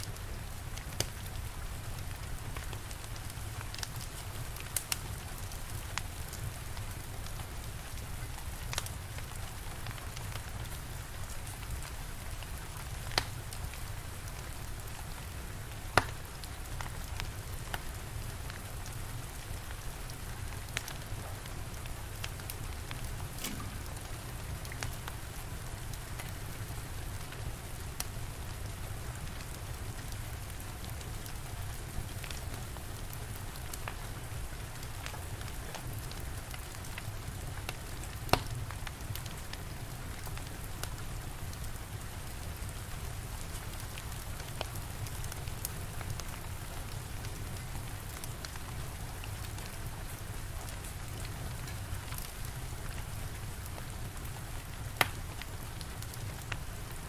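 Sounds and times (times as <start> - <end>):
steady rain: 0.0 - 57.0
wood fire crackling and popping: 0.1 - 57.0.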